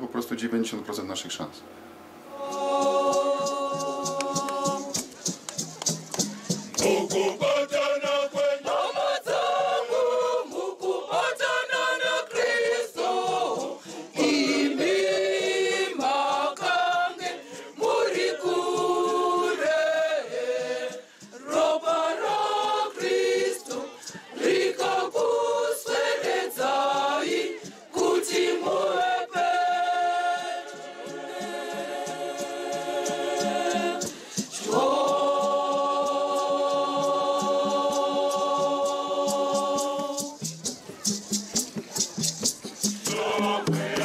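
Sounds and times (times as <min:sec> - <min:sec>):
women's choir singing: 0:02.3 - 0:05.1, 0:06.7 - 0:40.4, 0:43.0 - 0:44.0.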